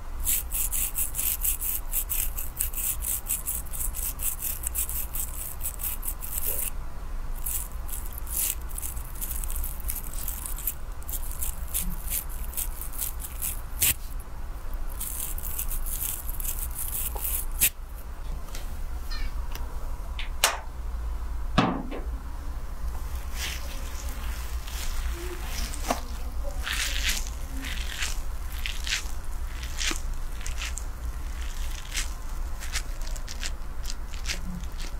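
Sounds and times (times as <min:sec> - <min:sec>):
fingers scratching wet hair: 0:00.0 - 0:06.7, 0:07.4 - 0:17.8, 0:23.0 - 0:34.9
steady low hum: 0:00.0 - 0:34.9.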